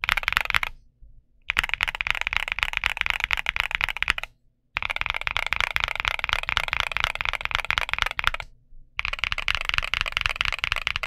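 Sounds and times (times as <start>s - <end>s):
fast typing on mechanical keyboard: 0.0s - 0.8s, 1.5s - 11.0s.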